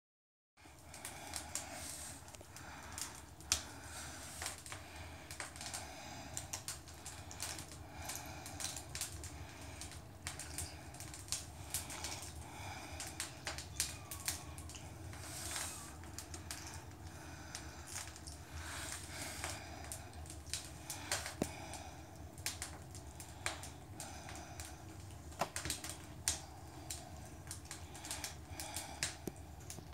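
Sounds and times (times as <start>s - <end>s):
cats chewing wet food: 0.8s - 29.9s.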